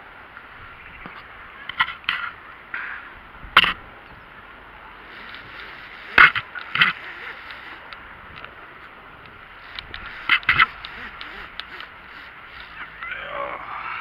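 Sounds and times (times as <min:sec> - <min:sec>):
steady hiss: 0:02.4 - 0:14.0.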